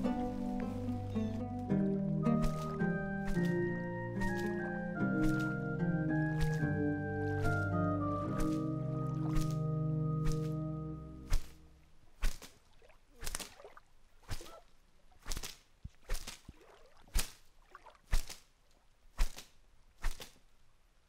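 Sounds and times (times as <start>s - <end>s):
brush and branches rustling: 0.0s - 20.7s.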